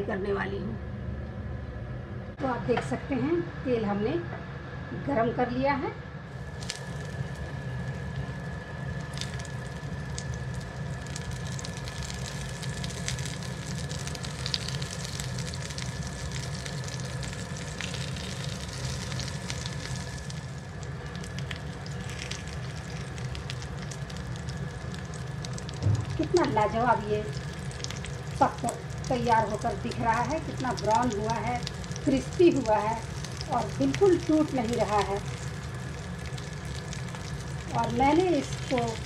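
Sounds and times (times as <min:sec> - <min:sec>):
patties sizzling in oil: 0:06.3 - 0:39.0.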